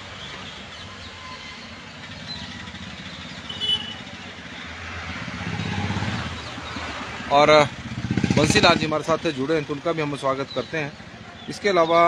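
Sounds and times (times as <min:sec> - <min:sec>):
highway traffic noise: 0:00.0 - 0:12.0.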